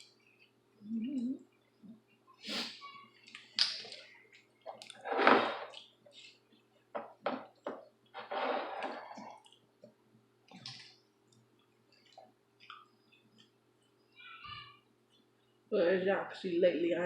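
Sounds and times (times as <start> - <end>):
eating and table noise: 0.0 - 15.8
faint steady hum: 0.0 - 17.0.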